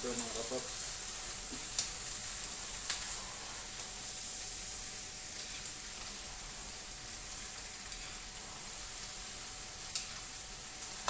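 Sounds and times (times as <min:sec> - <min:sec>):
cabbage sizzling in a pan: 0:00.0 - 0:11.0.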